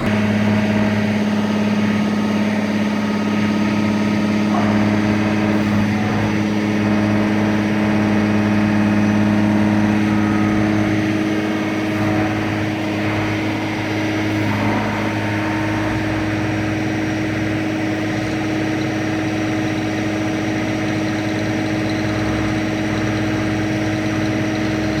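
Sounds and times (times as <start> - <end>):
machine engine running: 0.0 - 25.0.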